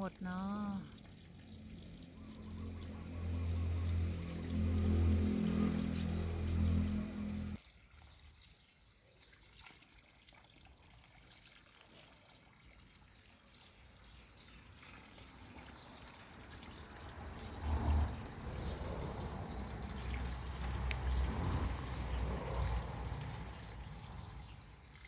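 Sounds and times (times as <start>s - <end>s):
faint trickling water: 0.0s - 25.0s.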